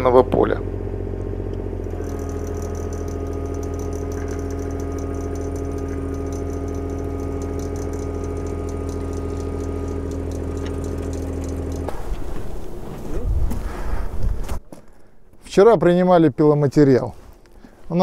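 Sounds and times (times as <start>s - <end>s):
engine idling: 0.0s - 15.4s.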